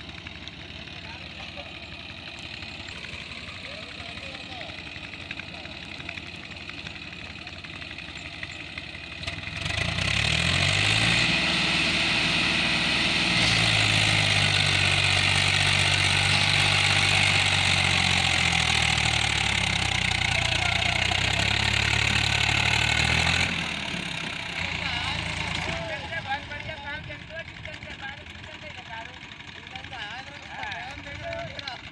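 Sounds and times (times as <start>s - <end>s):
tractor diesel engine revving: 0.0s - 31.9s.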